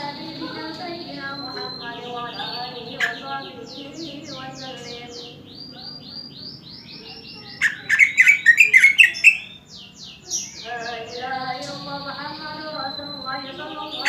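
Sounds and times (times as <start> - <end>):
bird whistling song: 0.0 - 14.0
scratchy bird chattering: 0.0 - 14.0.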